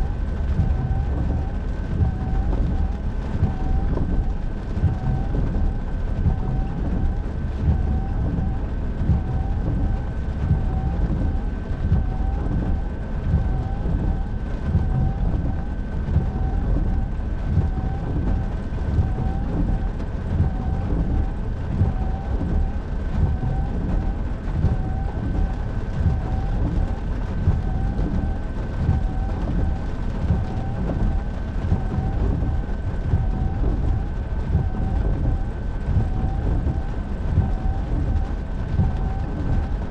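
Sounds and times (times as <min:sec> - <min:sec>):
road and rain rumble: 0:00.0 - 0:39.9
thin steady whine: 0:00.0 - 0:39.9.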